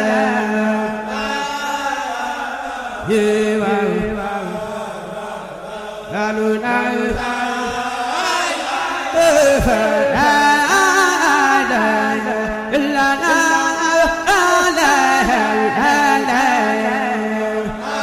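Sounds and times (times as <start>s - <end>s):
chanted singing: 0.0s - 18.0s.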